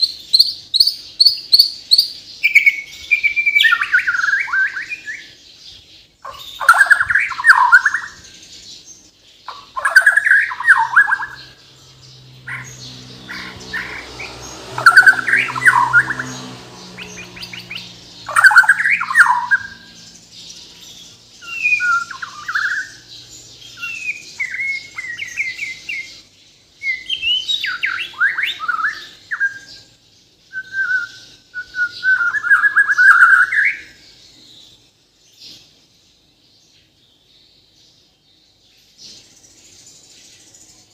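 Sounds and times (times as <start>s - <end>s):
bird singing whistles and chatter: 0.0s - 34.8s.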